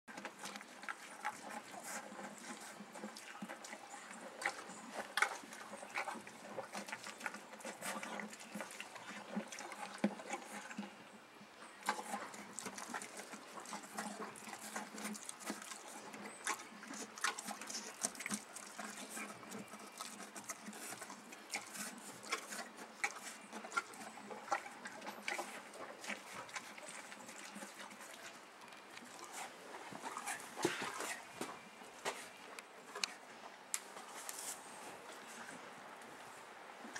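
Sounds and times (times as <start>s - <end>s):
horse crunching feed: 0.1s - 36.9s.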